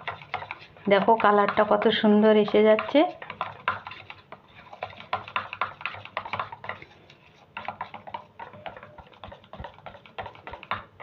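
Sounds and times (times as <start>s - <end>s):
metal spoon scraping steel bowl: 0.0s - 10.6s.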